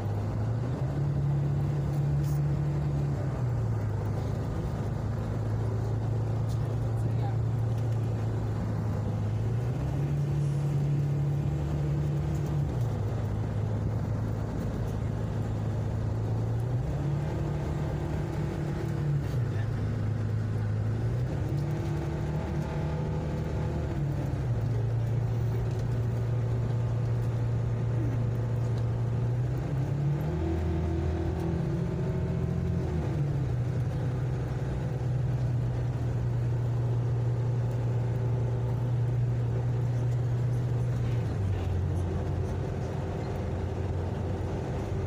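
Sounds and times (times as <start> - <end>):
road noise: 0.0 - 45.0
vehicle engine humming: 0.0 - 45.0.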